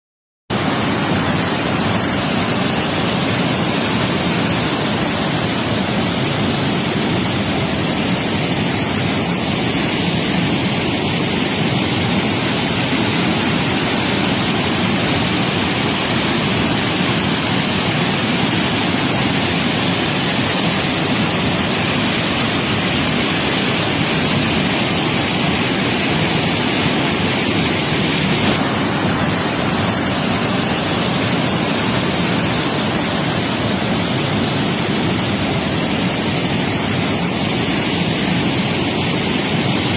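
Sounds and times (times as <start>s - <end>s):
floodwater rushing: 0.6s - 39.9s.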